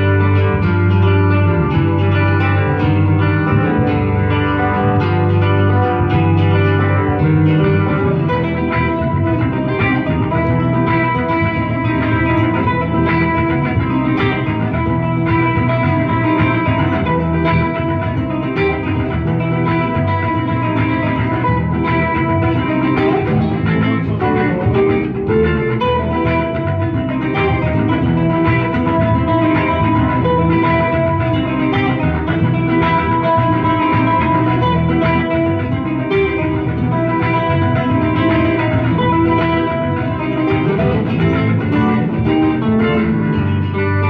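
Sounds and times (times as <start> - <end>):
amplified acoustic guitar: 0.0 - 44.0
electric guitar: 0.0 - 44.0.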